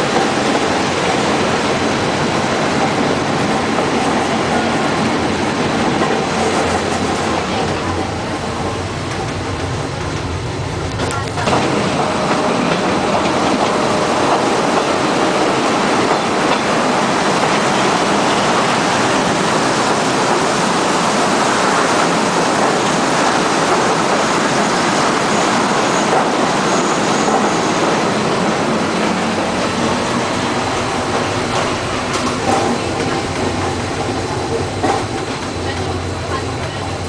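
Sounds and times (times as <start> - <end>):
train running gear on rails: 0.0 - 37.0.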